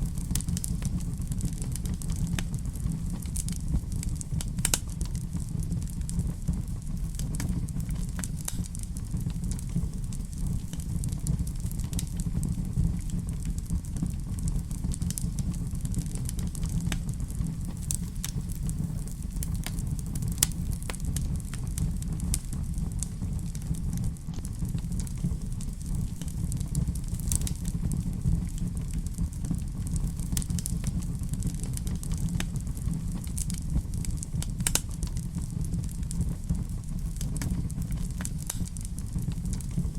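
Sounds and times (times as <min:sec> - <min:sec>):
fire crackles and pops: 0:00.0 - 0:39.9
wood fire rumbling: 0:00.0 - 0:39.9.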